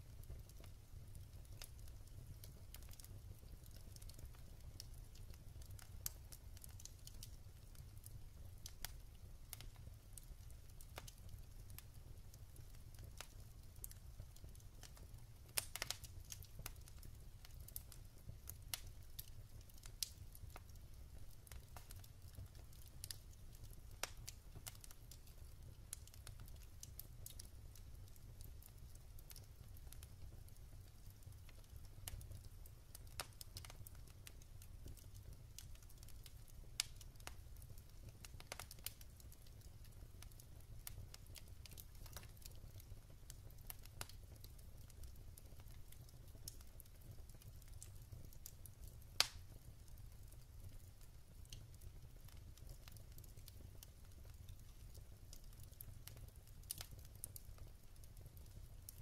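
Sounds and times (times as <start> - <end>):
burning logs crackling and popping: 0.0 - 59.0
low rumble of flames: 0.0 - 59.0.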